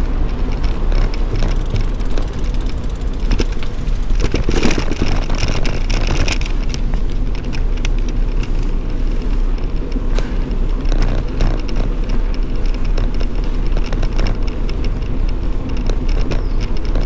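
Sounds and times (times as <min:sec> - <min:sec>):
bicycle rattling over cobblestones: 0:00.0 - 0:17.0.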